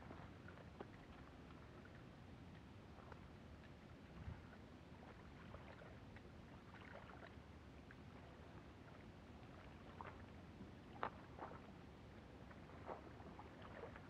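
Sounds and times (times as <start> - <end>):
faint water lapping at shore: 0.0 - 14.0.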